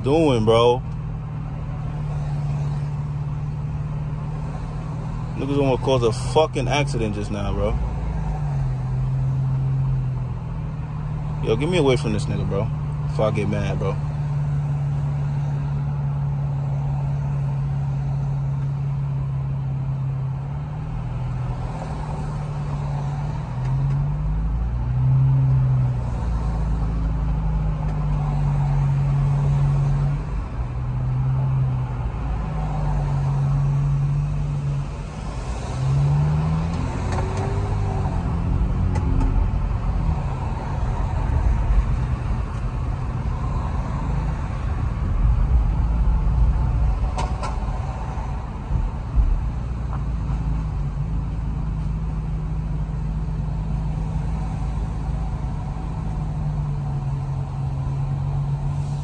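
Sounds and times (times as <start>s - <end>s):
car engine and exhaust drone: 0.0s - 59.0s
road noise: 0.0s - 59.0s.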